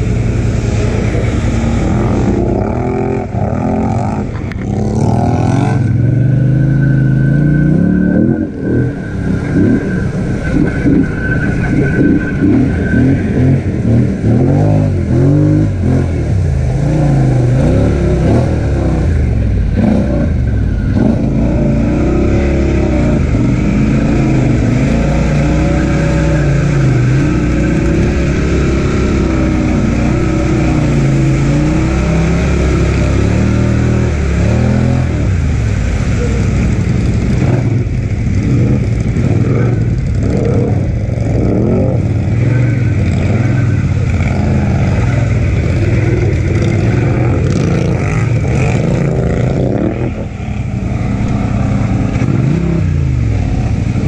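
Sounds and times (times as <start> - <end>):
atv engine revving: 0.0 - 54.0
high whine: 0.0 - 54.0
vehicle moving through mud and water: 0.0 - 54.0.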